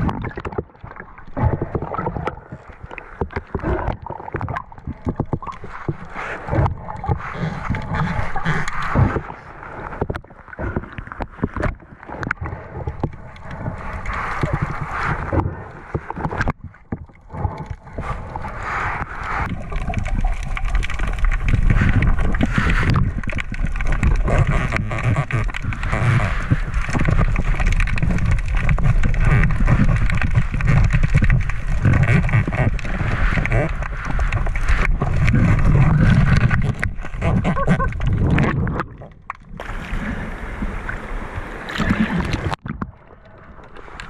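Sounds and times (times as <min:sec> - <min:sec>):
knocks and splashes: 0:00.0 - 0:41.1, 0:41.7 - 0:43.2
water sloshing and gurgling: 0:00.0 - 0:44.0.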